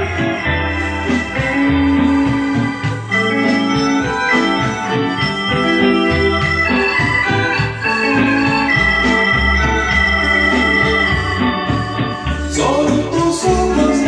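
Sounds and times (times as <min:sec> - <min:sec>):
bass line: 0:00.0 - 0:14.0
organ-like keyboard chords: 0:00.0 - 0:14.0.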